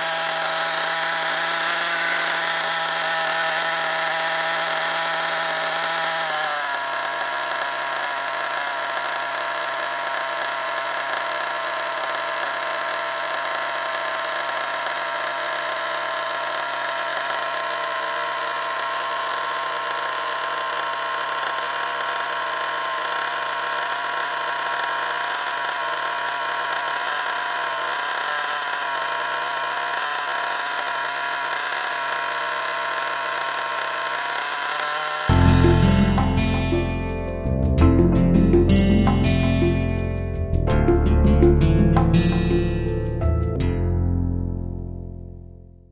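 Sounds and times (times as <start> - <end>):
nitro engine idling: 0.0 - 37.2.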